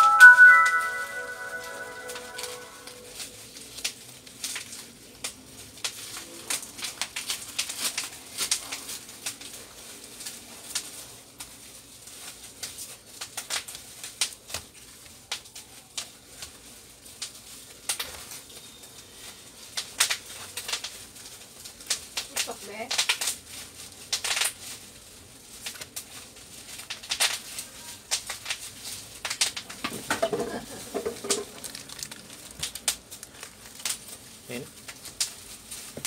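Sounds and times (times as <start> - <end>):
plastic wrapping crinkling: 0.0 - 36.0.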